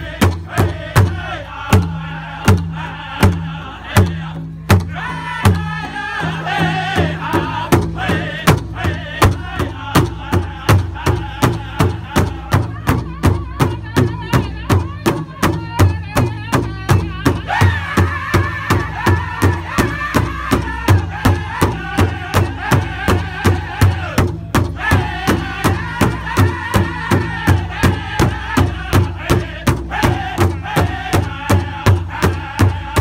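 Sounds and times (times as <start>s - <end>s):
bass drum steady beat: 0.0s - 33.0s
high-pitched group singing: 0.0s - 33.0s.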